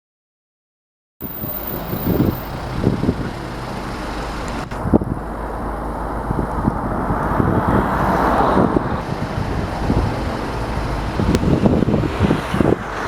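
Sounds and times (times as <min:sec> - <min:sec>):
road traffic rumble: 0:01.2 - 0:13.0.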